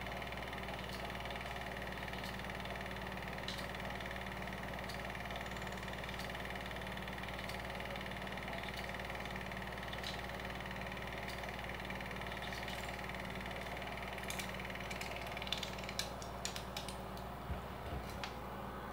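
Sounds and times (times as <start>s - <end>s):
film projector running: 0.0s - 18.9s
sharp irregular clicks: 0.5s - 17.3s.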